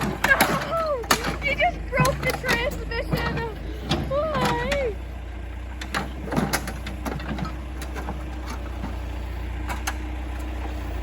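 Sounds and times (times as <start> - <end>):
machine engine humming: 0.0 - 11.0.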